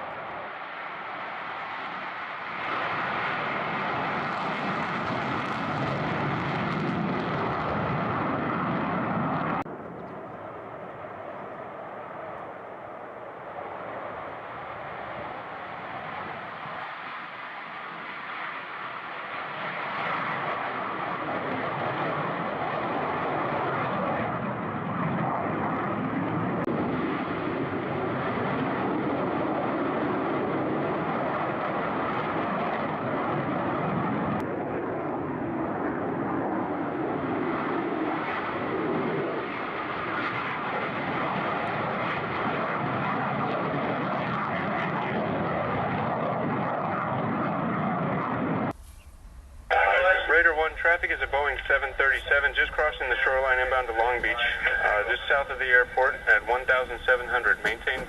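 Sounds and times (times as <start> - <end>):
jet aircraft taking off: 0.0 - 58.0.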